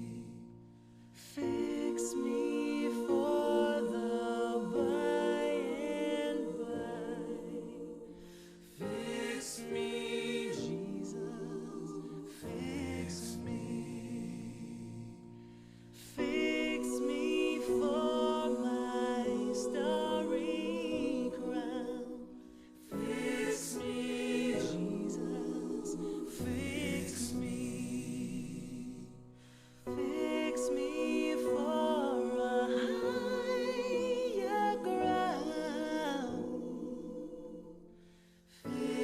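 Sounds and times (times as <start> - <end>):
voices singing a cappella: 0.0 - 39.0.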